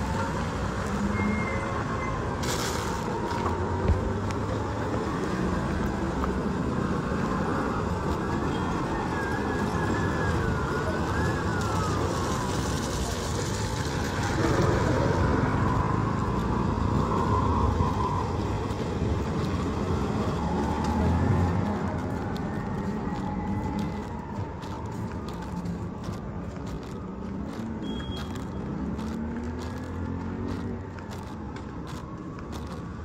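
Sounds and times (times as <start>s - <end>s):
passing car engines: 0.0s - 33.0s.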